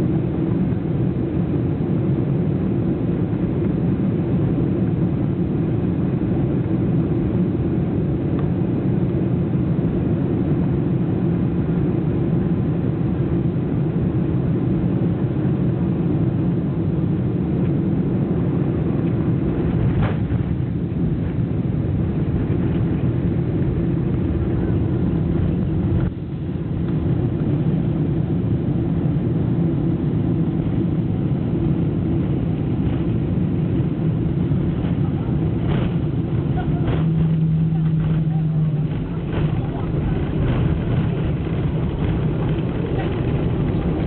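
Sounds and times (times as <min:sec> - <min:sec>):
airliner engine rumble: 0:00.0 - 0:44.0.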